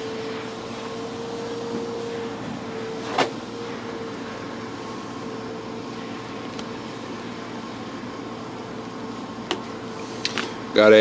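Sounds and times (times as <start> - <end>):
steady room hum: 0.0 - 11.0.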